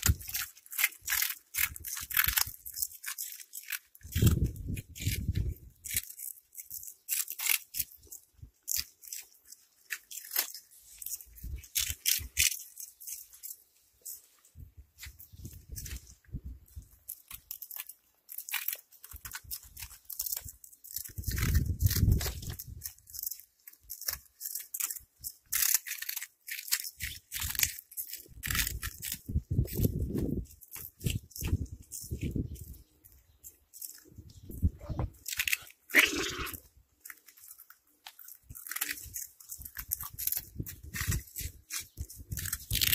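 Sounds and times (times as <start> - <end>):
cats chewing crunchy snacks: 0.0 - 14.4, 15.0 - 42.9.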